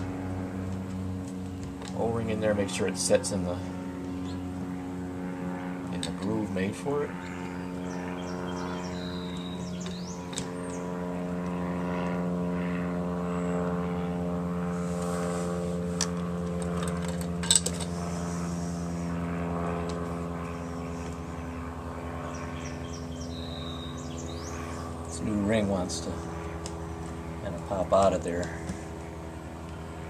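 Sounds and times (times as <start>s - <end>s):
steady engine drone: 0.0s - 30.0s.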